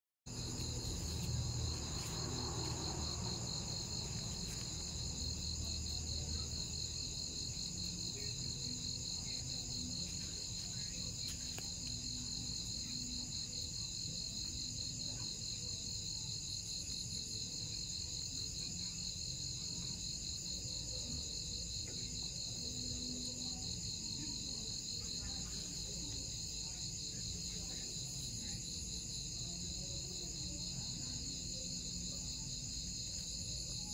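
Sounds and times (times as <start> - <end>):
crickets trilling: 0.3 - 33.9.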